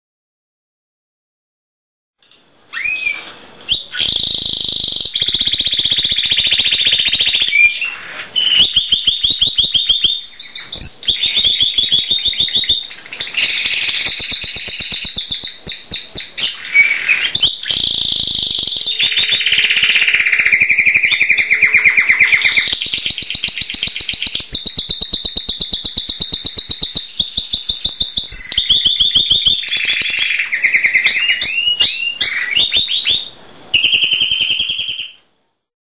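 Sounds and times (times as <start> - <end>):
canary singing trills: 2.2 - 35.3.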